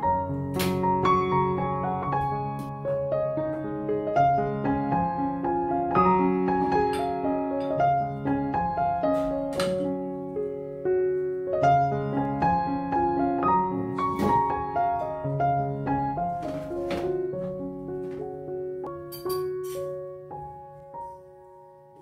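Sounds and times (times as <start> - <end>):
solo piano piece: 0.0 - 22.0.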